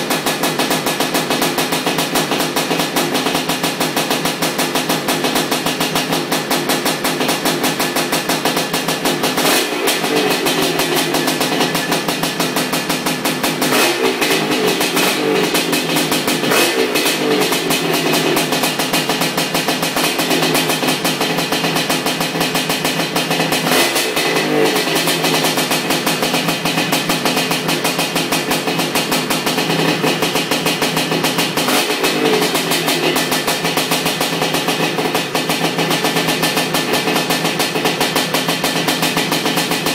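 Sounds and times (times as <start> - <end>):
two-stroke engine running fast: 0.0 - 39.9.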